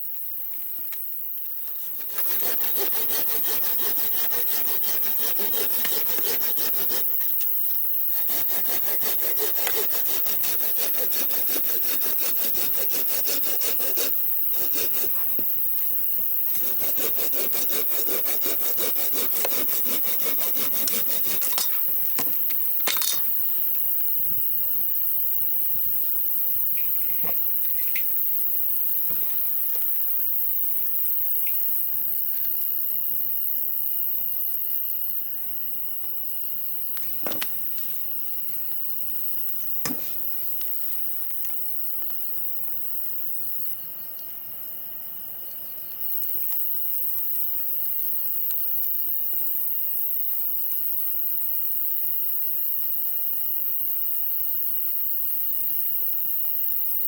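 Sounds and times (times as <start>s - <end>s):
crickets and insects chirping: 0.0s - 57.0s
pulsed insect trill: 1.1s - 44.1s, 45.5s - 57.0s.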